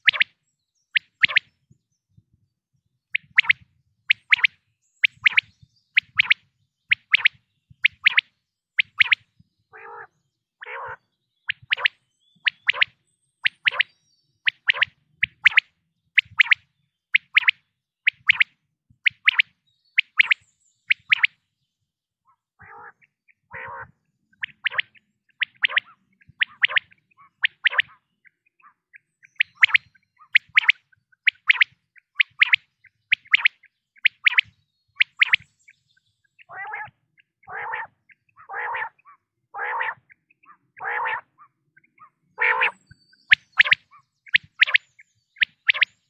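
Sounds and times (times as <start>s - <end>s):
quail whistled calls: 0.0s - 1.5s, 3.1s - 21.4s, 22.3s - 46.0s.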